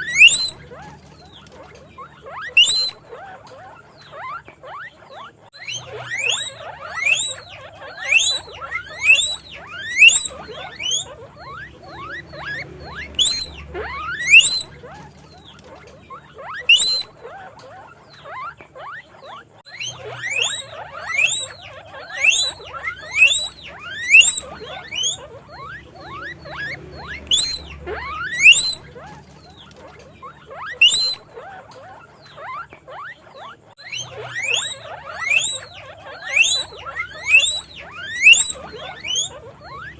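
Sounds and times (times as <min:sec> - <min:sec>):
guinea pigs wheeking: 0:00.0 - 0:39.9.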